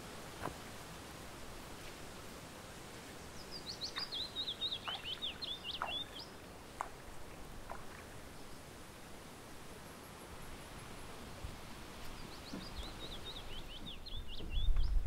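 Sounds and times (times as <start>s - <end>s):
outdoor hiss: 0.0s - 15.0s
songbird singing: 2.8s - 15.0s.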